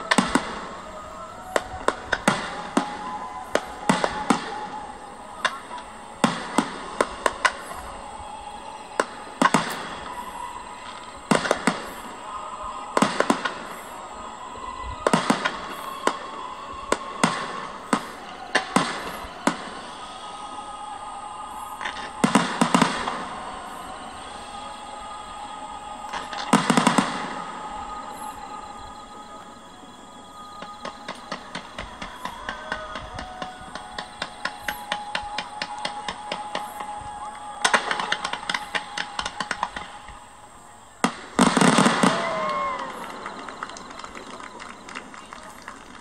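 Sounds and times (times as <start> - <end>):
fireworks bangs: 0.0 - 29.6, 30.5 - 46.0
music: 0.0 - 46.0.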